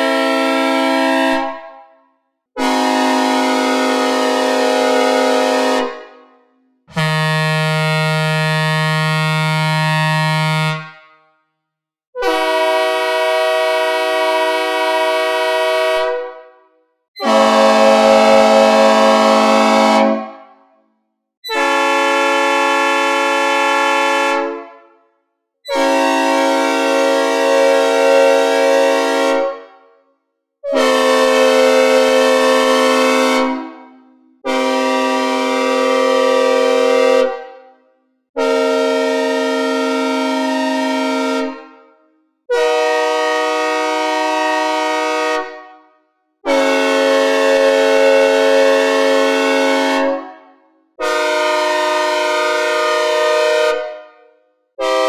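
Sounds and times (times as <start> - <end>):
synthesized locomotive air horn chords: 0.0 - 2.0, 2.6 - 11.3, 12.2 - 29.9, 30.7 - 45.8, 46.5 - 55.0.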